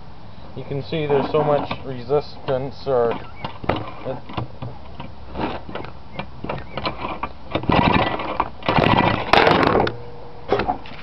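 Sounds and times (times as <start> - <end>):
engine being cranked by hand: 0.8 - 11.0.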